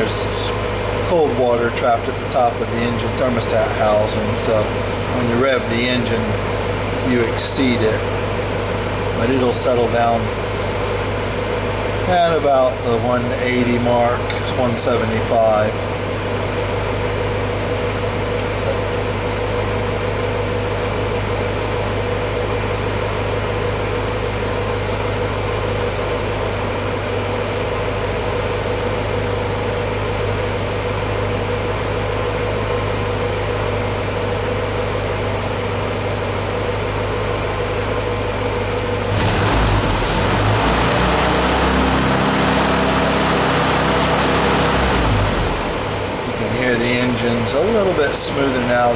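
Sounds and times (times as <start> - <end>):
jeep engine idling: 0.0 - 48.9.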